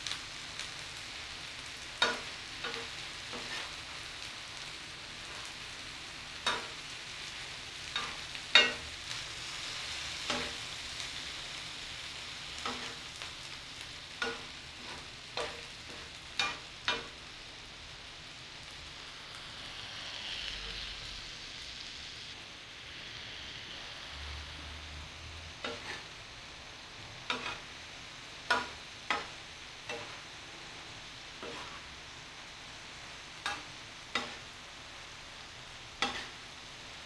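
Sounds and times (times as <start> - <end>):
food sizzling in oil: 0.0 - 37.0.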